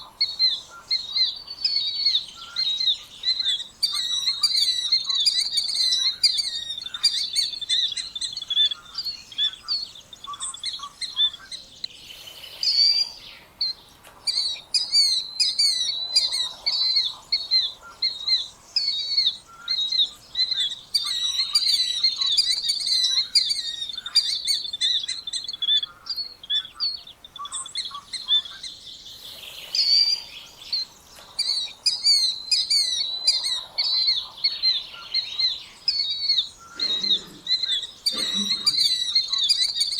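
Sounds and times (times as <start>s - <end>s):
killdeer calling: 0.0s - 11.6s, 12.6s - 28.8s, 29.5s - 39.9s.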